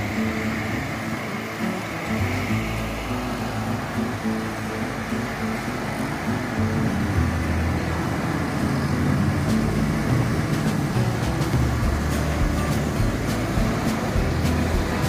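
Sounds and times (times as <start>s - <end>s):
cars driving past: 0.0s - 15.0s
low engine rumble: 0.0s - 15.0s
tyres on wet pavement: 0.0s - 15.0s.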